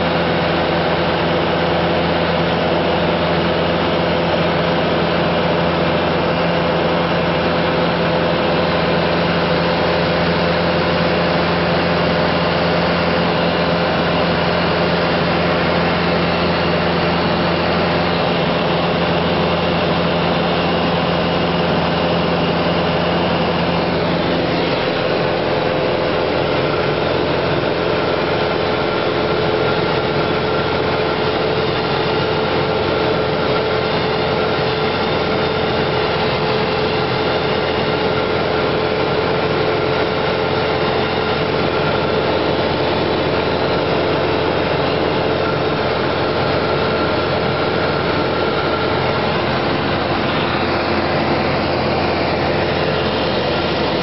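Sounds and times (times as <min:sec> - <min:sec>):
light aircraft engine droning: 0:00.0 - 0:54.0.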